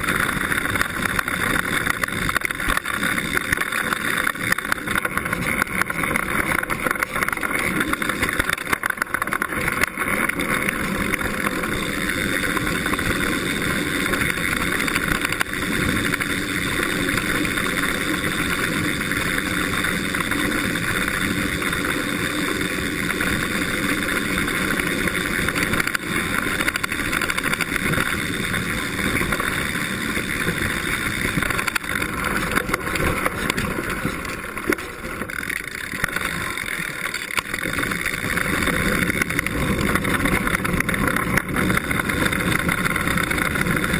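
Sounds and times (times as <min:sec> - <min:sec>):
bike rattling and knocking: 0:00.0 - 0:43.9
tyres rolling over dirt and gravel: 0:00.0 - 0:43.9.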